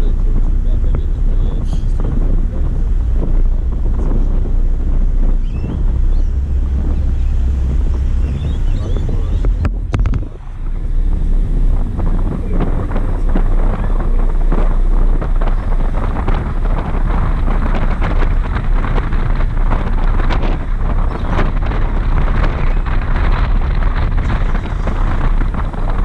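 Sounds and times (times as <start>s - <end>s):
crackling from wind: 0.0s - 26.0s
wind buffeting microphone: 0.0s - 26.0s.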